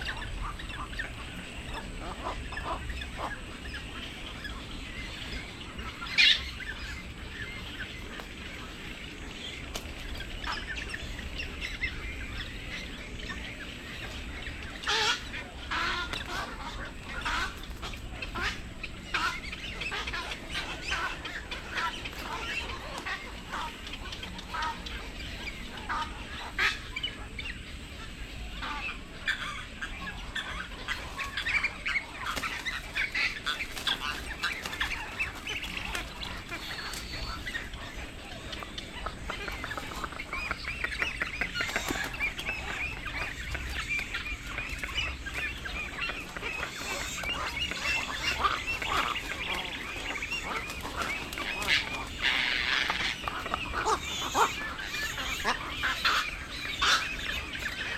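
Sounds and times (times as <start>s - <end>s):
herons squawking: 0.0s - 57.9s.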